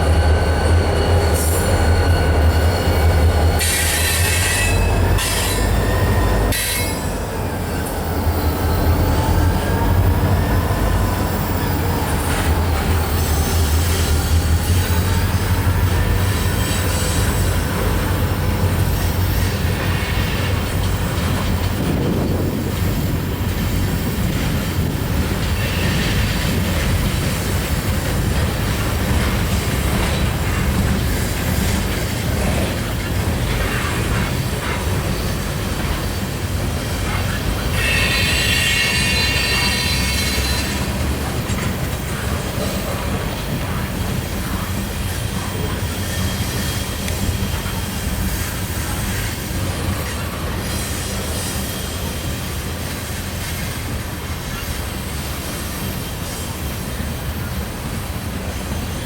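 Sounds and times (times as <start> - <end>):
freight train rumbling past: 0.0 - 59.0
train wheels squealing on rails: 0.0 - 59.0.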